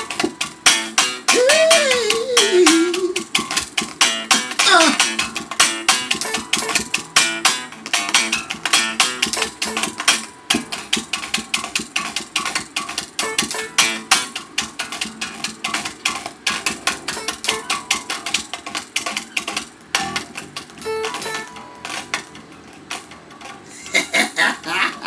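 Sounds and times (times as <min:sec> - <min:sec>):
strummed guitar: 0:00.0 - 0:25.0.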